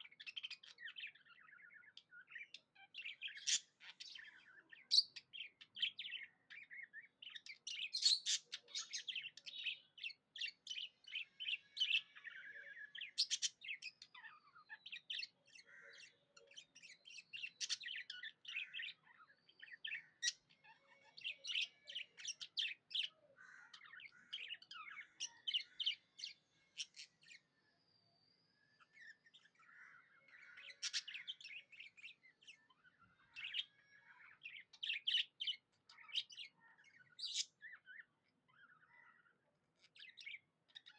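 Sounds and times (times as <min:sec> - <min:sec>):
budgies chattering and warbling: 0:00.0 - 0:27.9, 0:28.6 - 0:40.9.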